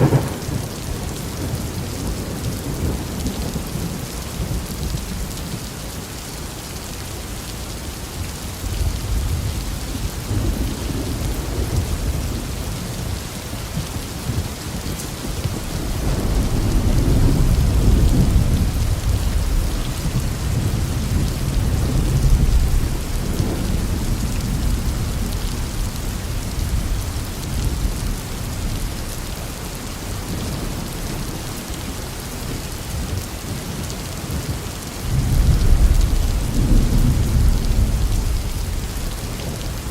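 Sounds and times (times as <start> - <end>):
rolling thunder: 0.0 - 5.4, 8.7 - 31.7, 35.1 - 39.9
steady rain: 0.0 - 39.9.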